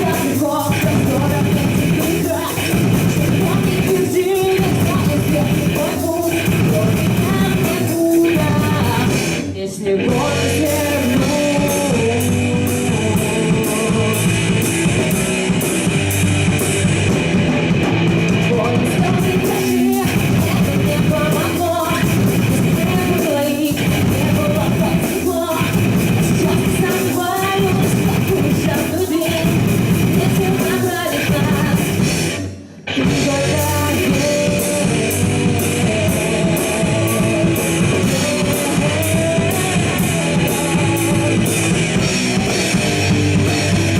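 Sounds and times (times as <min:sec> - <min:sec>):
person singing: 0:00.0 - 0:15.2, 0:18.3 - 0:43.9
rock band playing live: 0:00.0 - 0:43.9.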